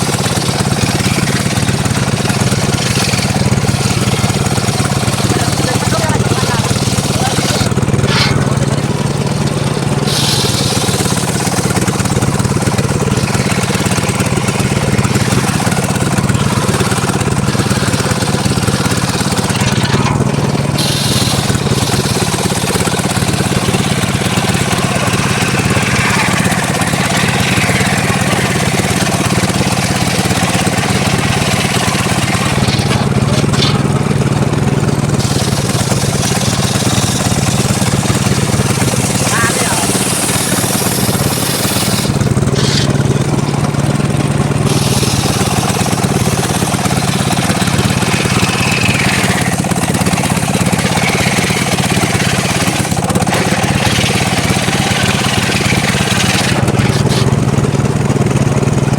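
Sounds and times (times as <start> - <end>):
saw blade cutting wood: 0.0 - 57.6
engine hum: 0.0 - 58.9.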